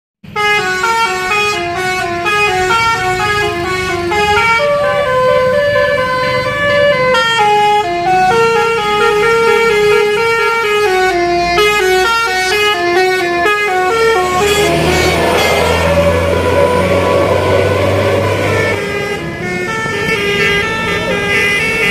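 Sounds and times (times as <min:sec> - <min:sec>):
bus engine: 0:00.2 - 0:21.9
musical bus horn melody: 0:00.2 - 0:21.9.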